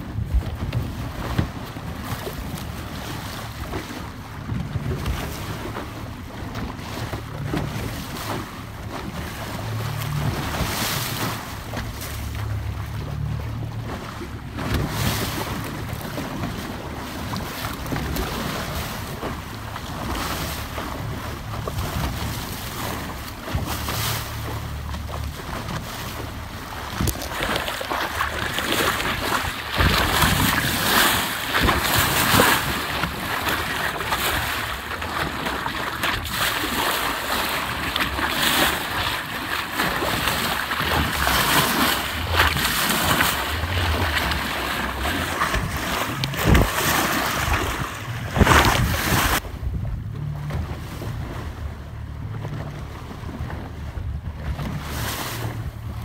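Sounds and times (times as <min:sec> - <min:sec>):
boat motor running: 0:00.0 - 0:56.0
water rushing and splashing: 0:00.0 - 0:56.0
wind buffeting microphone: 0:00.0 - 0:56.0.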